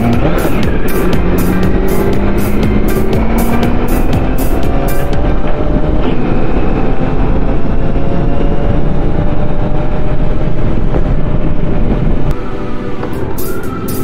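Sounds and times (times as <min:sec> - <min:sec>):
motorcycle engine running: 0:00.0 - 0:12.3
wind rumble on microphone: 0:00.0 - 0:12.4.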